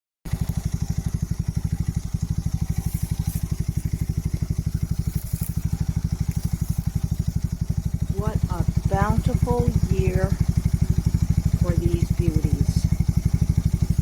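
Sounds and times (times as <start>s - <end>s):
engine idling: 0.3s - 14.0s.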